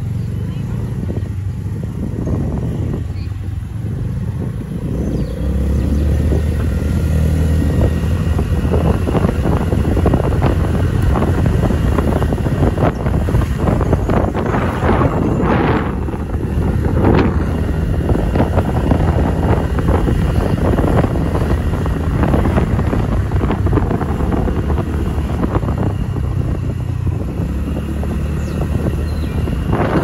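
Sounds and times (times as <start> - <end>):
motorcycle engine rumbling: 0.0 - 30.0
wind on microphone: 0.0 - 30.0.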